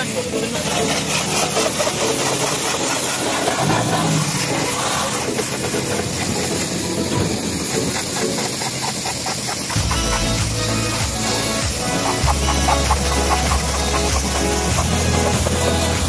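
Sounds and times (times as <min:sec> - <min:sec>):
machine drone: 0:00.0 - 0:16.0
pressure washer jet hissing: 0:00.0 - 0:16.0.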